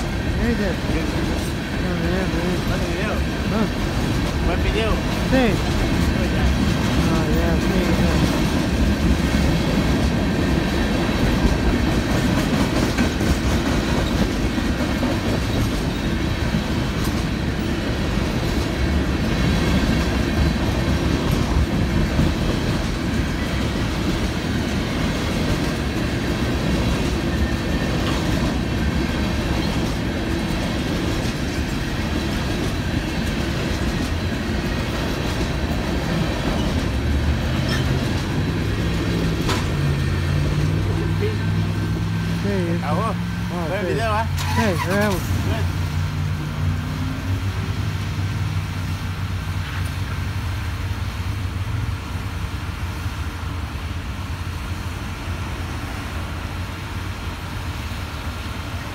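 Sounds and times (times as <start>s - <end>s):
train wheels rumbling and clacking: 0.0s - 58.9s.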